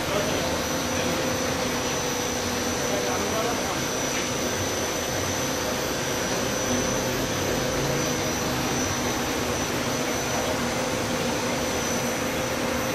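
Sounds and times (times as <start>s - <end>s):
machine motor whirring: 0.0s - 12.9s
thin high whine: 0.0s - 12.9s.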